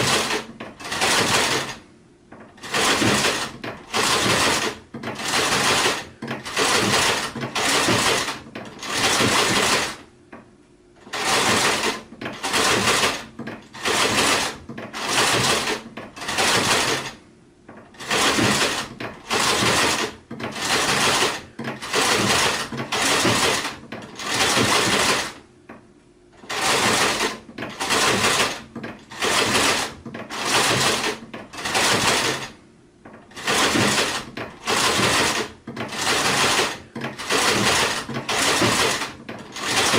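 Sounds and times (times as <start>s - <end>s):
sewing machine stitching: 0.0s - 10.1s, 11.0s - 25.4s, 26.4s - 39.9s.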